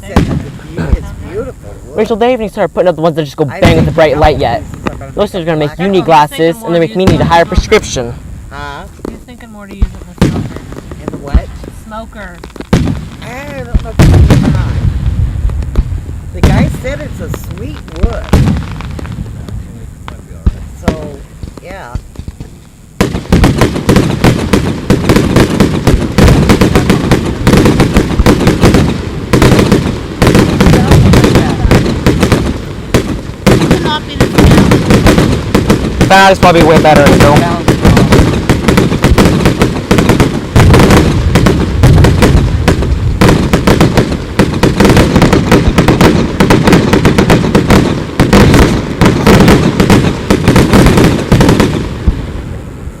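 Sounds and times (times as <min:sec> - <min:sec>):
fireworks banging and crackling: 0:00.0 - 0:53.0.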